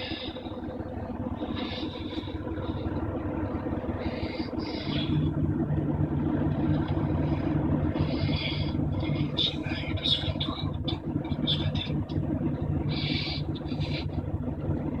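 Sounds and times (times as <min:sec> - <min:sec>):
airliner engines rumbling: 0:00.0 - 0:15.0
steady low hum: 0:00.0 - 0:15.0.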